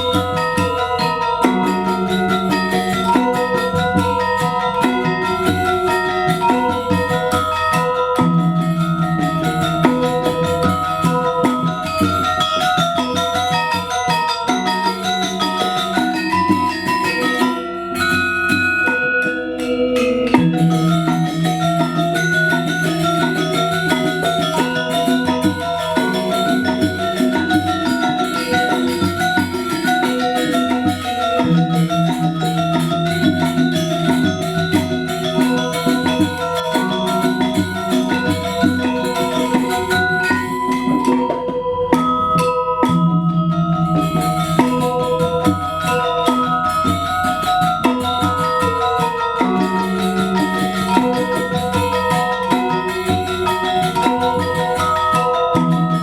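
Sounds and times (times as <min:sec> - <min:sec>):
gamelan dance music: 0:00.0 - 0:56.0.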